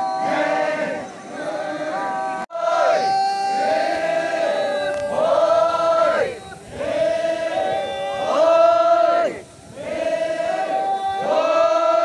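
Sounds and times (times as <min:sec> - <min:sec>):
group singing a chant in unison: 0:00.0 - 0:12.0.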